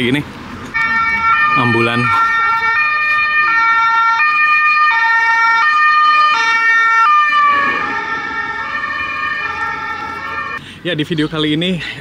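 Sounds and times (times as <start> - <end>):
ambulance two-tone siren: 0.7 - 10.6.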